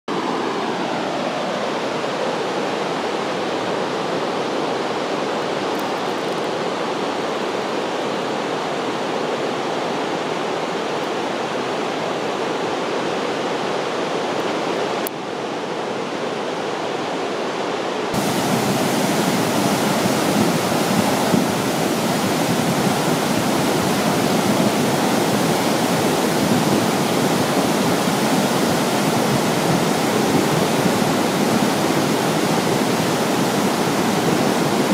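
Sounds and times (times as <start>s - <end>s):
river torrent rushing: 0.1s - 34.9s.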